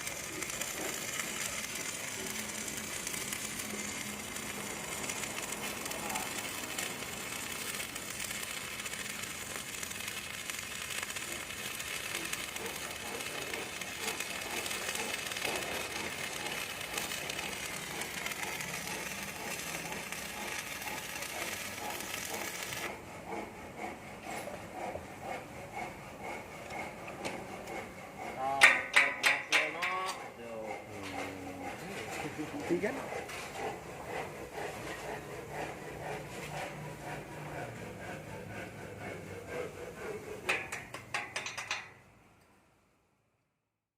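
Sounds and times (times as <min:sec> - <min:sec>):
arc welding: 0:00.0 - 0:38.8.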